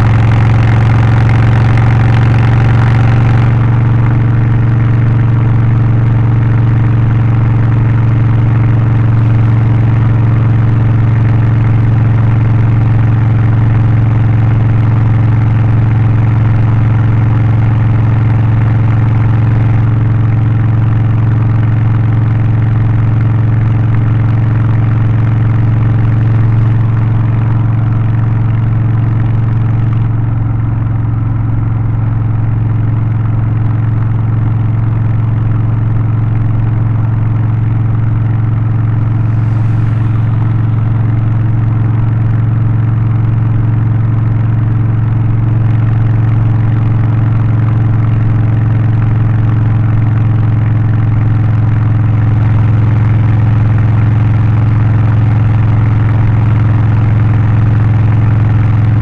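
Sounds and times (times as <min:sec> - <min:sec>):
motorcycle engine running loud: 0:00.0 - 0:59.0.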